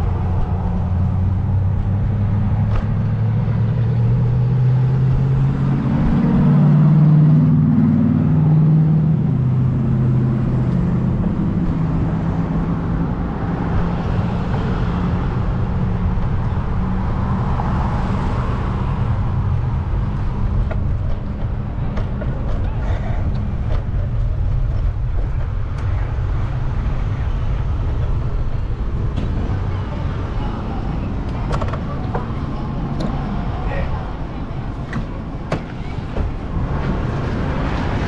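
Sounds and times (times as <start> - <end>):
low traffic rumble: 0.0 - 38.0
vehicle engine humming: 0.0 - 38.0.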